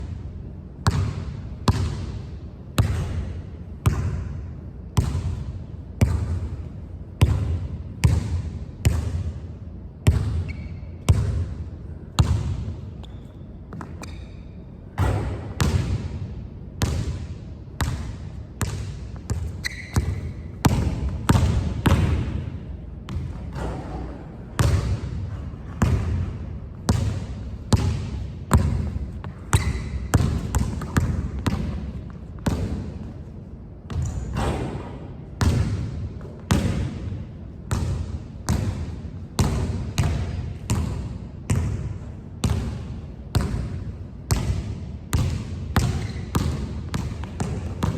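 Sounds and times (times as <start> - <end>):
basketball bouncing on a court: 0.0 - 47.9.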